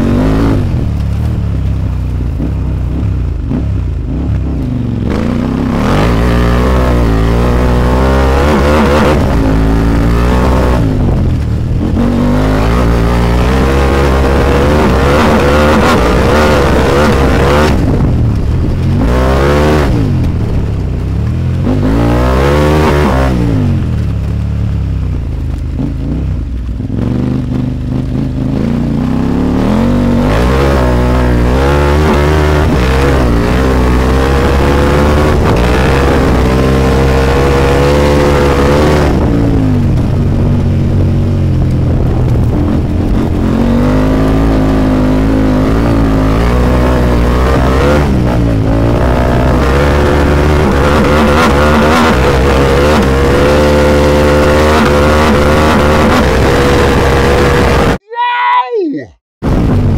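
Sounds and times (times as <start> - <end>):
motorcycle engine revving: 0.0 - 58.1.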